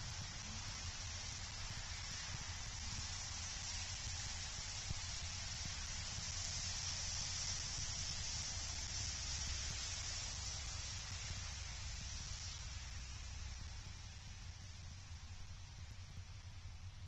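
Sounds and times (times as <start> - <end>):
even hiss: 0.0 - 17.0.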